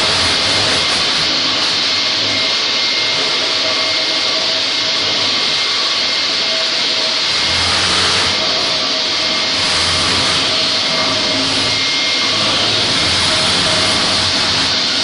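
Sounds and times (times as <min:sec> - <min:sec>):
concrete floor grinder running: 0:00.0 - 0:15.0
dust extractor: 0:00.0 - 0:15.0
thin high whine: 0:00.0 - 0:15.0.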